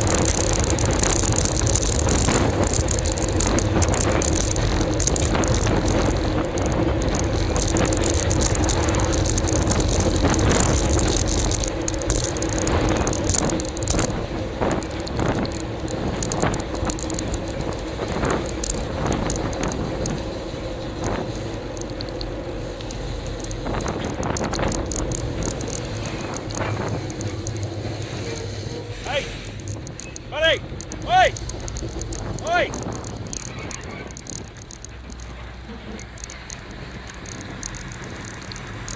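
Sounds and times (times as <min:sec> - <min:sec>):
wind on microphone: 0:00.0 - 0:35.2
bicycle tyre road rumble: 0:00.0 - 0:38.9
crackling clicks and rattles: 0:00.0 - 0:38.9
faint ticking: 0:00.0 - 0:38.9.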